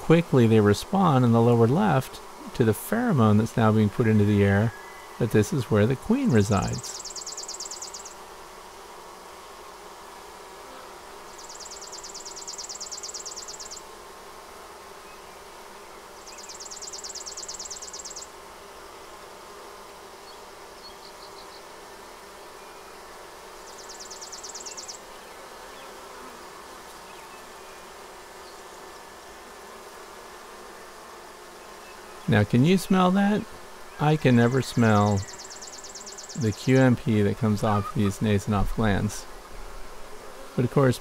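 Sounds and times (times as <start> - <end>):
honey bees buzzing: 0.0 - 41.0.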